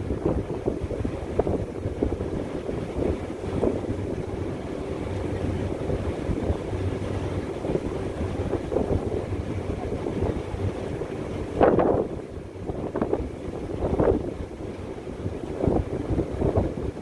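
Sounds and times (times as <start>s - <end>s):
boat engine humming: 0.0s - 17.0s
wind buffeting microphone: 0.0s - 17.0s.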